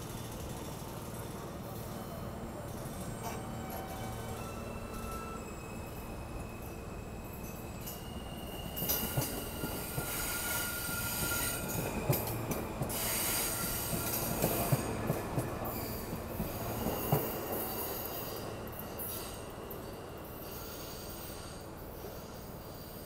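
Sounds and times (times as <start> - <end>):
high-pitched train whine: 0.0 - 23.0
subway train wheels clacking: 0.0 - 23.0.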